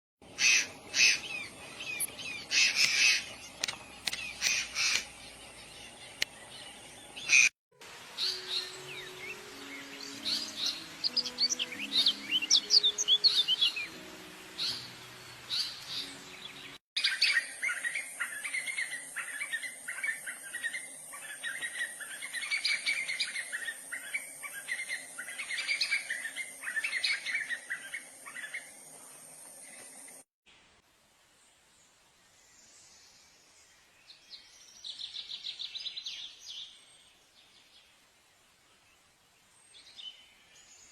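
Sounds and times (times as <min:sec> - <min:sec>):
small birds chirping and singing: 0:00.2 - 0:30.2, 0:32.4 - 0:38.0, 0:38.6 - 0:40.9.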